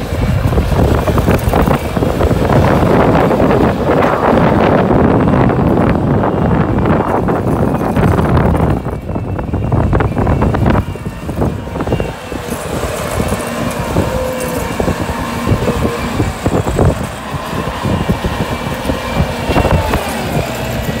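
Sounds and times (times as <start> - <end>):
diesel engine running hard: 0.0 - 21.0.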